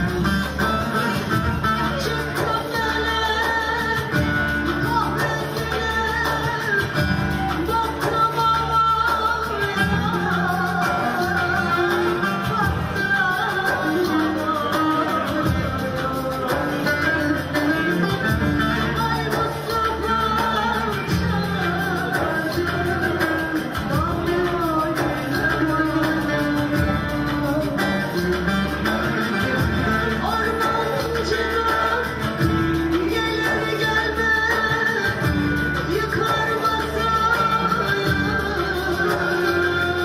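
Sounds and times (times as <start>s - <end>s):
amplified instrumental accompaniment: 0.0s - 40.0s
woman singing into microphone: 0.0s - 40.0s.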